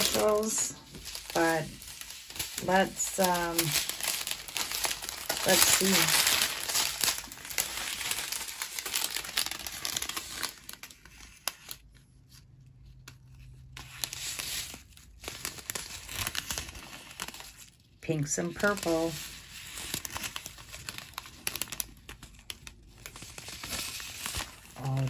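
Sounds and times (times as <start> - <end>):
plastic bags crinkling and tearing: 0.0 - 12.0, 12.9 - 25.0.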